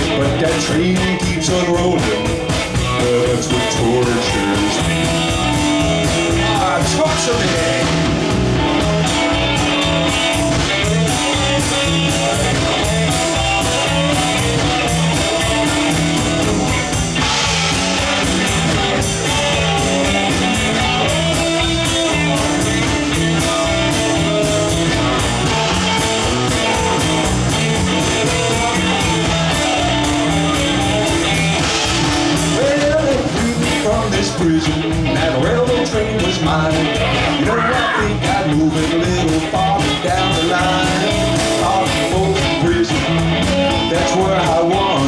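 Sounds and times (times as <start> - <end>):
drum kit steady beat: 0.0 - 45.0
electric bass: 0.0 - 45.0
electric guitars: 0.0 - 45.0.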